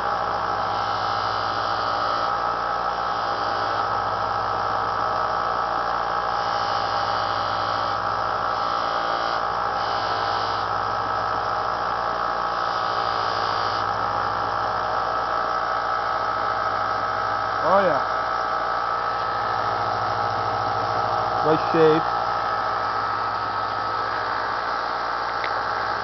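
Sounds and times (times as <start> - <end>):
belt sander motor running: 0.0 - 26.0.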